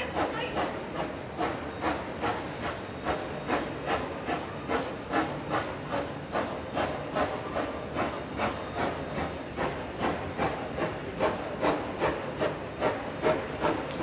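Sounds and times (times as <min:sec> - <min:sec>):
steady steam hiss: 0:00.0 - 0:14.0
steam locomotive exhaust chuffing: 0:00.0 - 0:14.0.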